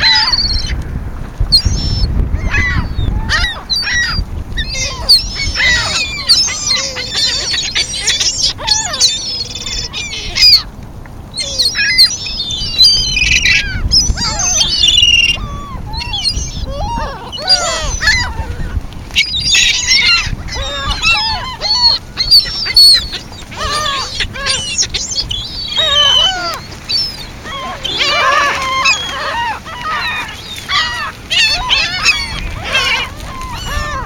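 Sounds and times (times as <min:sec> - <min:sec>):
flock of birds calling: 0:00.0 - 0:34.0.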